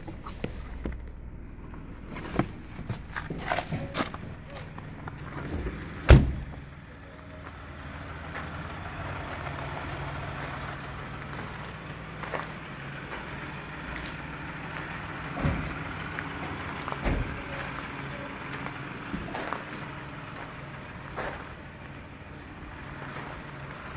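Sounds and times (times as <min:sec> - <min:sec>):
car engine idling: 0:00.0 - 0:23.9
footsteps on gravel: 0:02.0 - 0:06.7, 0:07.4 - 0:22.0, 0:22.8 - 0:23.9.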